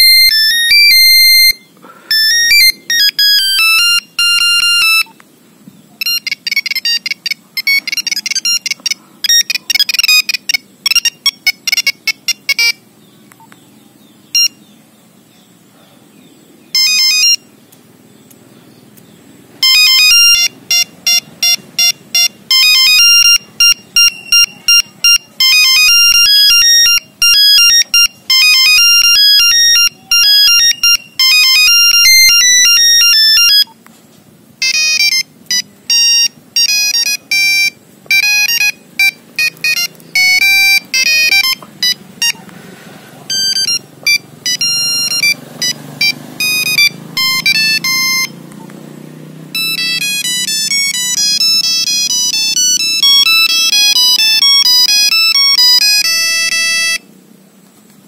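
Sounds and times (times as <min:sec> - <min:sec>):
monophonic ringtone melody: 0:00.0 - 0:05.2, 0:05.9 - 0:12.9, 0:14.2 - 0:14.7, 0:16.6 - 0:17.6, 0:19.5 - 0:33.8, 0:34.6 - 0:42.5, 0:43.2 - 0:48.5, 0:49.2 - 0:57.1
phone key beep: 0:00.0 - 0:05.2, 0:06.0 - 0:12.8, 0:14.4 - 0:14.6, 0:16.8 - 0:17.4, 0:19.6 - 0:33.8, 0:34.6 - 0:42.4, 0:43.3 - 0:48.3, 0:49.6 - 0:57.0.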